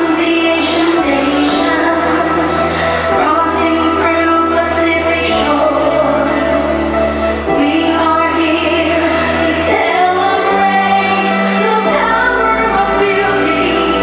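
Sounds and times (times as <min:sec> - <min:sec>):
sustained bass line: 0:00.0 - 0:14.0
woman singing: 0:00.0 - 0:14.0.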